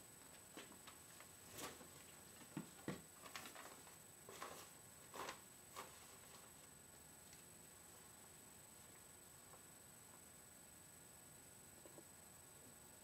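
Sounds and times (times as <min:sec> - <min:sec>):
faint high whine: 0:00.0 - 0:13.0
room hiss: 0:00.0 - 0:13.0.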